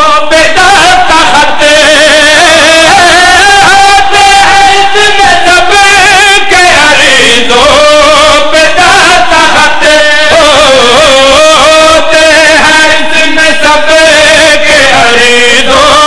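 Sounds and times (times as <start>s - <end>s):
man singing through a microphone: 0.0s - 16.0s.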